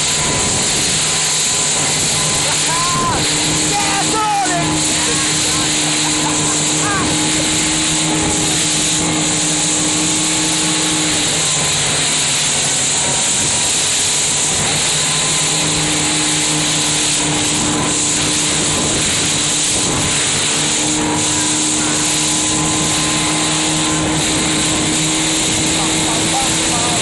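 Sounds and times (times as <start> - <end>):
motorboat engine drone: 0.0 - 27.0
rushing wind and water: 0.0 - 27.0.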